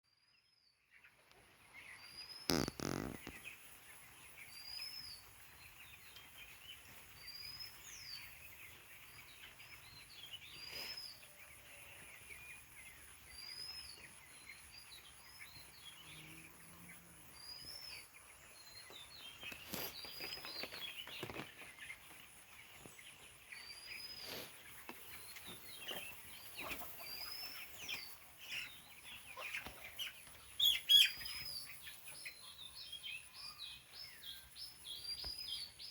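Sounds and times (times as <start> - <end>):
small bird chirps: 0.7 - 35.9.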